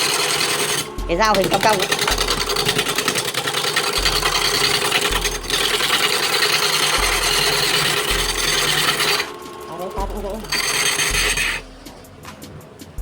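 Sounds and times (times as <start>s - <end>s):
lathe tool scraping wood: 0.0s - 13.0s.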